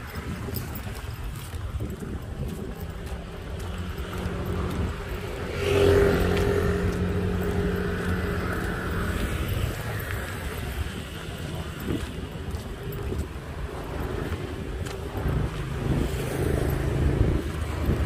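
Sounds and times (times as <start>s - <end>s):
road traffic: 0.0s - 18.0s
vehicle engine passing close: 3.3s - 18.0s.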